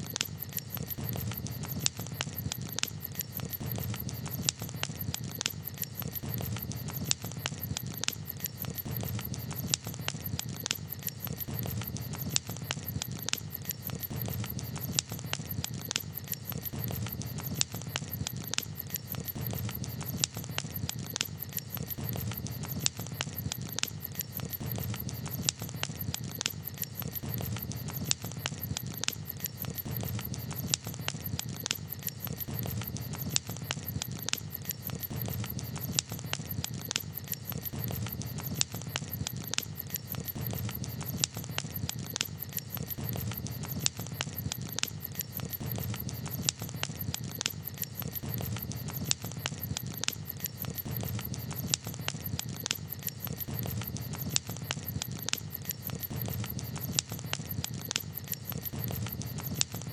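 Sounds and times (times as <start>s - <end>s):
campfire crackling and popping: 0.0s - 59.9s
low rumble of burning: 0.0s - 59.9s.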